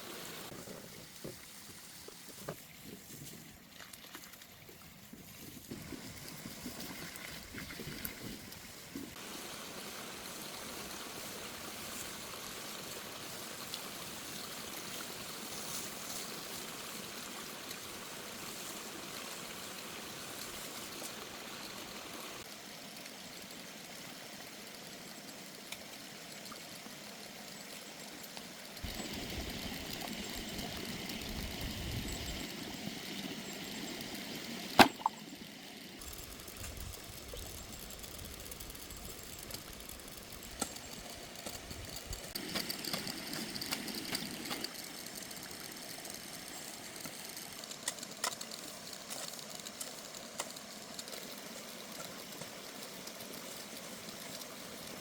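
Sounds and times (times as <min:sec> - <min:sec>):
stream water flowing: 0:03.6 - 0:55.0.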